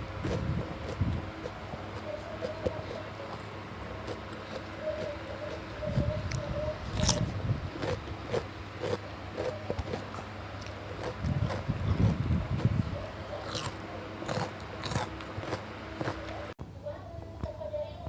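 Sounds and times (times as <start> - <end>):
crunchy vegetable crunching: 0.0 - 16.6
soft wet chewing: 0.2 - 16.6.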